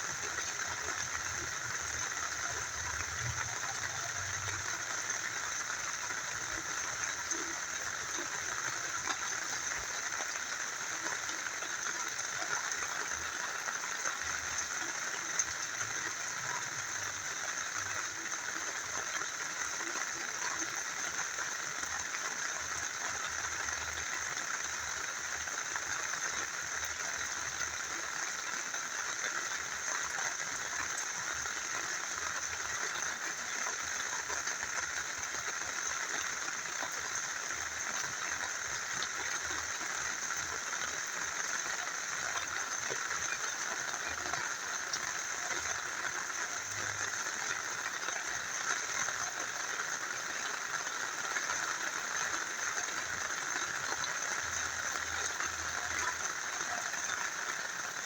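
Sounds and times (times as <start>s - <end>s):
rain falling: 0.0s - 58.0s
small river flowing: 0.0s - 58.0s.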